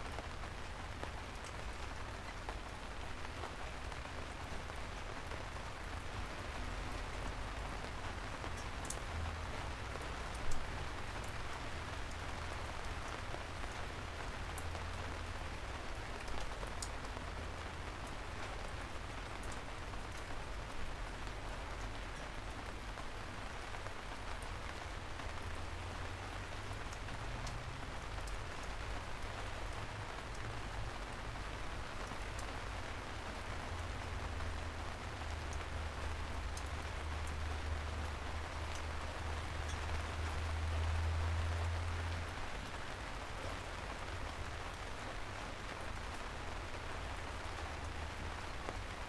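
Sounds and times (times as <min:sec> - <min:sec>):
rain falling on a surface: 0:00.0 - 0:49.0.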